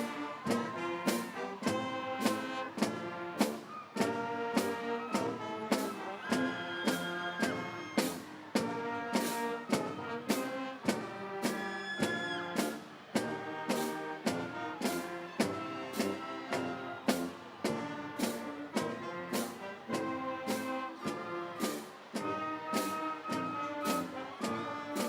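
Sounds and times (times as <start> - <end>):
brass chords: 0.0 - 25.0.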